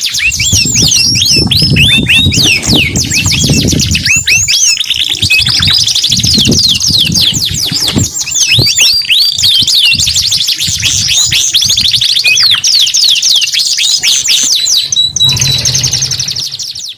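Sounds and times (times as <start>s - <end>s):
canaries singing in rolling trills: 0.0s - 16.9s.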